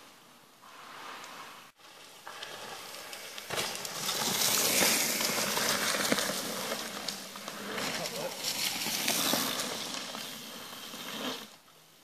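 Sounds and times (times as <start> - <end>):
bike tyres rolling on dirt: 0.0 - 12.0.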